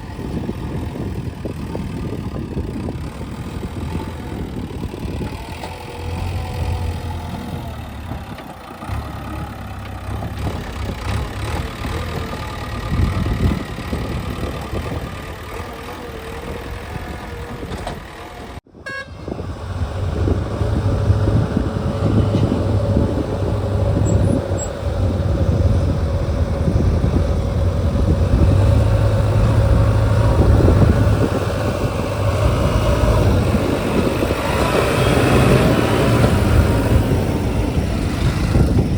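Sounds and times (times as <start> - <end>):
diesel engine rumbling: 0.0 - 38.9.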